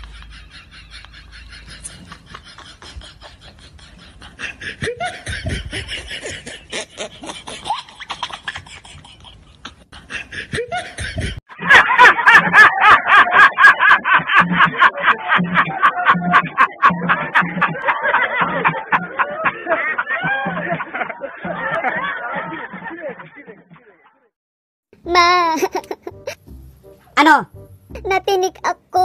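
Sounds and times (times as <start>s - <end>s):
people laughing: 0.0s - 24.3s.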